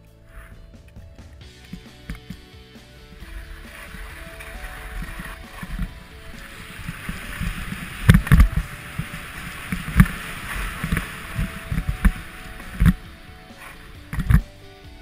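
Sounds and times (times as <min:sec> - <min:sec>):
skis thumping on bumps: 0:00.4 - 0:15.0
skis scraping over snow: 0:01.5 - 0:15.0.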